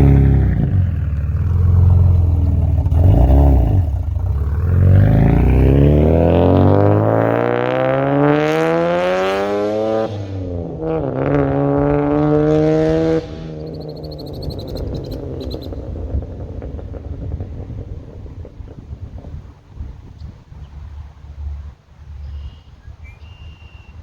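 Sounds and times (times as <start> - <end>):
car engine under full throttle: 0.0 - 22.2
road and tyre rumble: 0.0 - 24.0.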